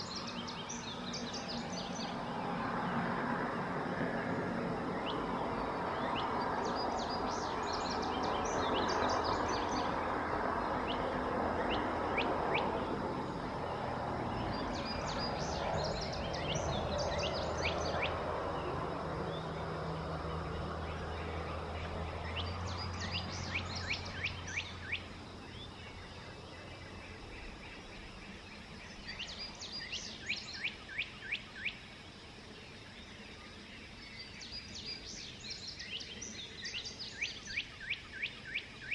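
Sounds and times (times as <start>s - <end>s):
songbird chirping: 0.0s - 38.9s
steady outdoor hiss: 0.0s - 38.9s.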